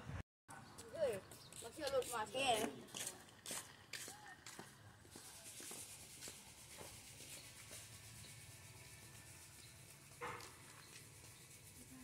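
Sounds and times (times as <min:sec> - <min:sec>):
faint rubbing and scuffing: 0:00.8 - 0:12.0.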